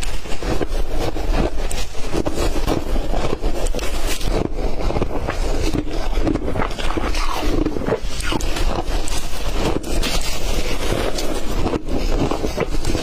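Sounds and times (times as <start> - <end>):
ice being chewed: 0.0 - 13.0.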